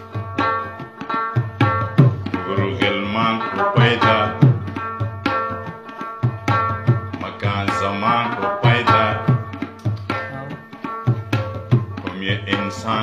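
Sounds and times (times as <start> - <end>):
tabla strokes: 0.0 - 13.0.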